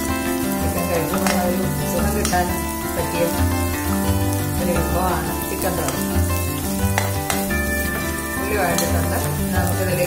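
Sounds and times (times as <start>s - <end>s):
food sizzling in hot oil: 0.0s - 10.0s
instrumental background music: 0.0s - 10.0s.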